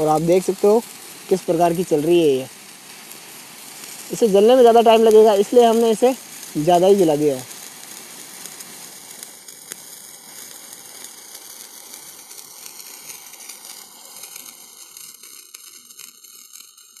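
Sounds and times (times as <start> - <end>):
sparklers fizzing and crackling: 0.0 - 17.0.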